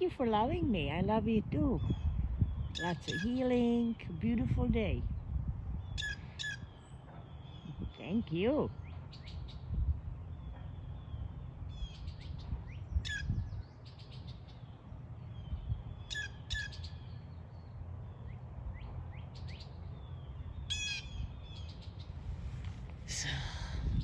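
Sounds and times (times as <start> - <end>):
low steady rumble: 0.0 - 24.0
songbirds chirping: 0.0 - 24.0.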